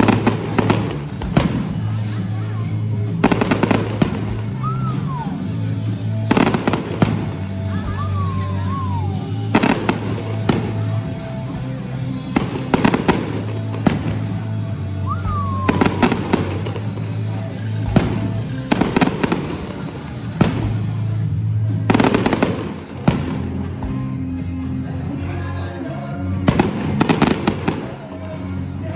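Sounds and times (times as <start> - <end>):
fireworks bangs: 0.0 - 2.2, 3.1 - 5.2, 6.2 - 24.4, 26.5 - 28.9
music playing: 0.0 - 28.9.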